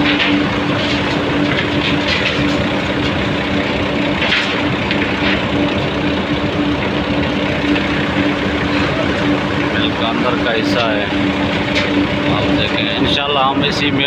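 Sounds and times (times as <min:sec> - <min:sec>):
mill machinery humming: 0:00.0 - 0:14.0.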